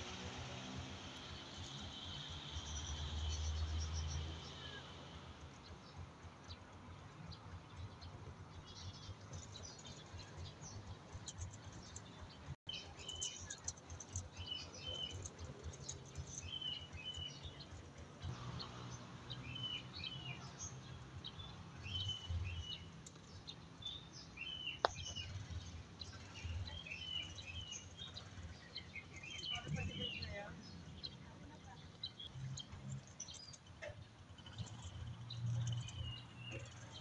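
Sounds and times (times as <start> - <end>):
small birds chirping: 0.5 - 37.0.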